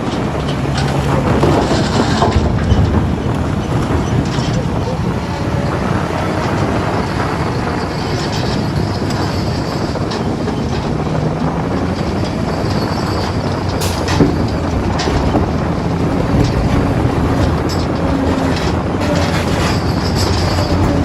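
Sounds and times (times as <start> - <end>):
diesel engine running: 0.0 - 21.0
high metallic squeal: 3.7 - 21.0.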